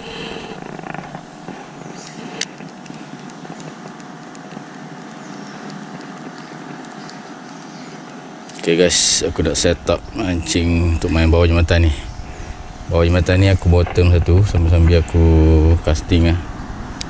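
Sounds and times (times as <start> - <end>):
distant motor drone: 0.0 - 17.0.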